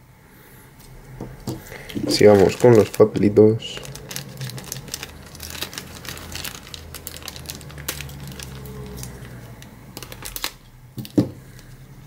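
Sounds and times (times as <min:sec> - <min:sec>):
plastic bag crinkling: 0:01.4 - 0:11.8
scissors cutting plastic: 0:01.9 - 0:11.8.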